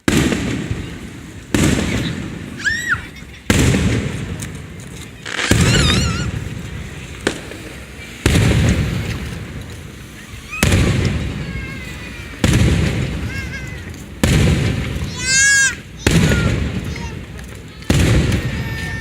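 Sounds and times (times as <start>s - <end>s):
fireworks shells booming: 0.0s - 19.0s
sharp firework crack: 0.0s - 19.0s.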